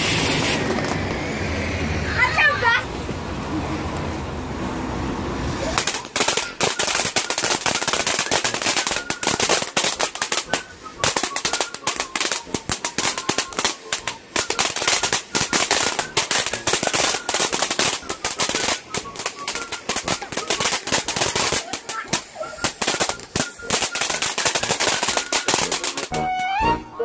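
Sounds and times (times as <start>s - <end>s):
firework crackling: 0.0s - 26.4s.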